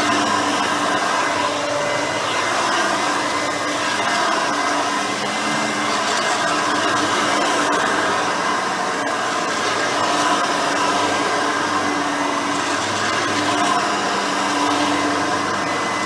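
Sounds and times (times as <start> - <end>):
upright vacuum cleaner running: 0.0 - 16.0.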